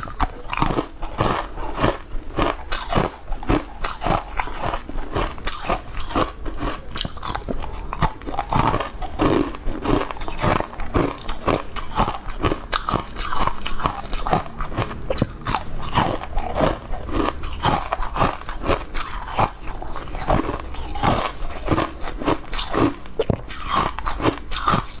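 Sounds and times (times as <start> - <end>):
chewing: 0.0 - 25.0
ice cubes crunched between teeth: 0.0 - 25.0.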